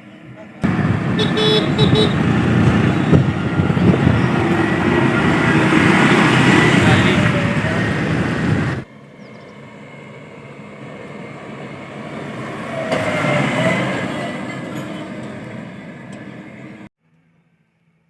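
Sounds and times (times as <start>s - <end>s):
diesel engine working under load: 0.6s - 16.9s.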